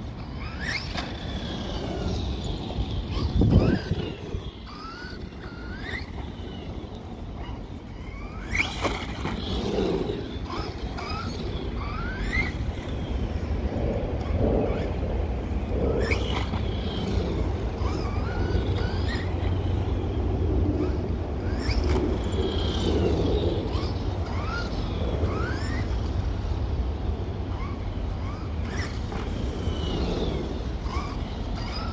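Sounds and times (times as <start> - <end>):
electric motor whining: 0.0 - 31.9.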